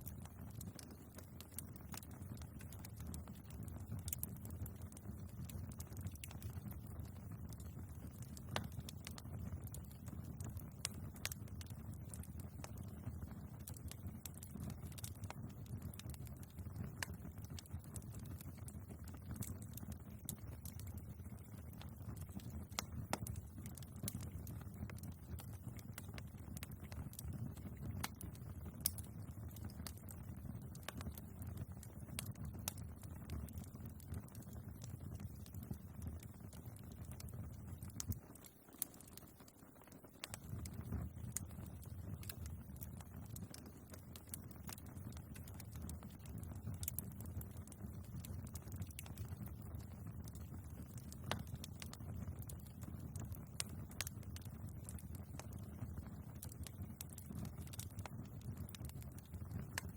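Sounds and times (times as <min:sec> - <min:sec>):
fire flames rustling: 0:00.0 - 0:59.9
logs crackling and popping: 0:00.0 - 0:59.9.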